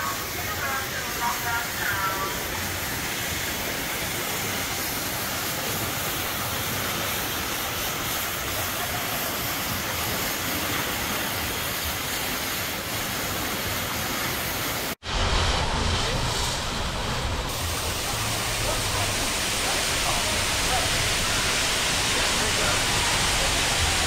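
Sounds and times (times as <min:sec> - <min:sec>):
rushing and spraying water: 0:00.0 - 0:24.0.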